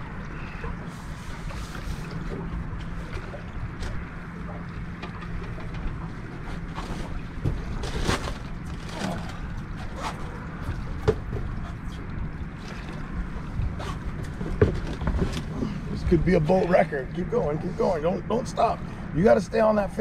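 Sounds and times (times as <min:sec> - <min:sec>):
knocks and clicks from boat: 0:00.0 - 0:17.4
low hum: 0:00.0 - 0:19.2.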